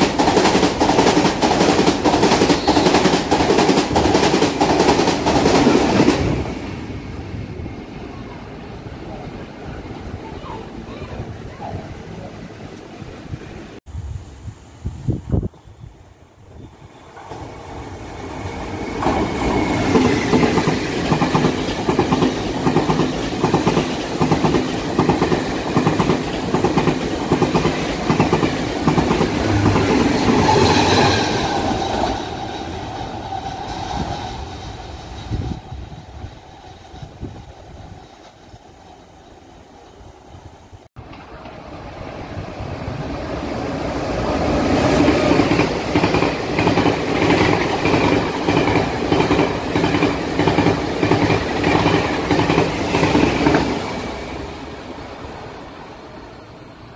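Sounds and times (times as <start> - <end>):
train passing at speed: 0.0 - 14.1, 16.2 - 56.9.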